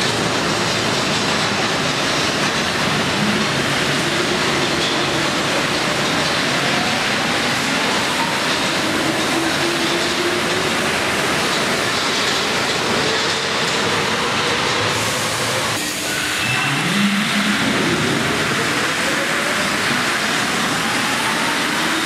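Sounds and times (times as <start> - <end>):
metro train rolling rumble: 0.0 - 22.0.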